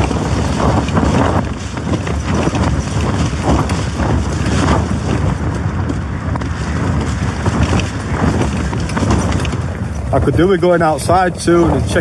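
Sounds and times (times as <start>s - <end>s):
storm wind buffeting: 0.0s - 12.0s
tent fabric flapping: 0.0s - 12.0s.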